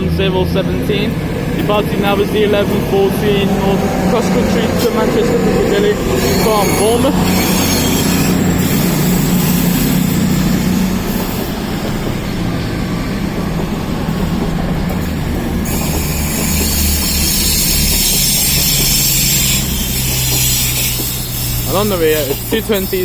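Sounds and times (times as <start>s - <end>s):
diesel engines humming: 0.0s - 23.0s
train wheels rushing on rail: 0.0s - 23.0s.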